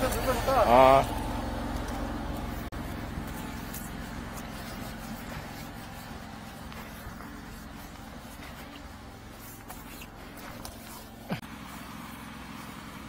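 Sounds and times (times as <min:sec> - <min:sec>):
sewer jetter engine humming: 0:00.0 - 0:13.0.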